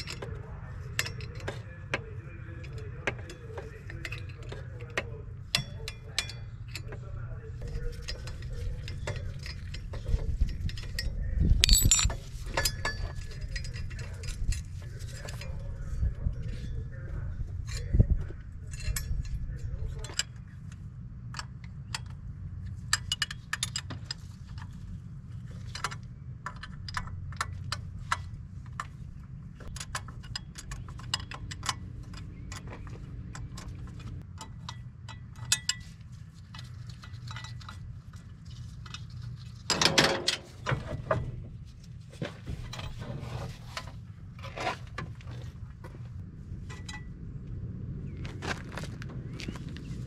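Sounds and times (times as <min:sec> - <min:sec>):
metal tools and car parts clinking: 0:00.0 - 0:47.3
steady low rumble: 0:00.0 - 0:50.0.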